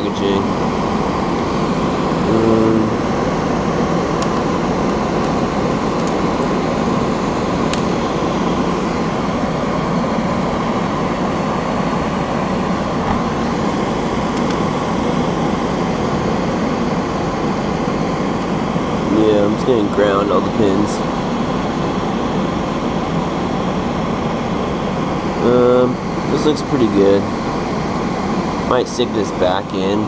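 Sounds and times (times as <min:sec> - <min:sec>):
extractor fan whirring: 0:00.0 - 0:30.0.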